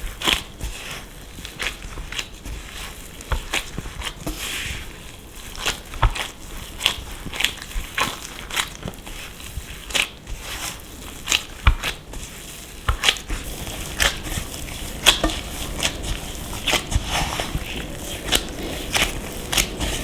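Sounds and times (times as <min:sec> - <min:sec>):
crisp crunching and crackling: 0:00.1 - 0:20.0.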